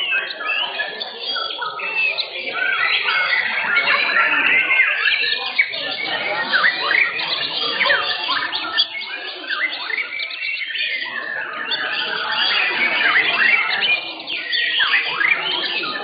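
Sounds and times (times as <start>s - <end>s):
birds singing whistles and chirps: 0.0s - 16.0s.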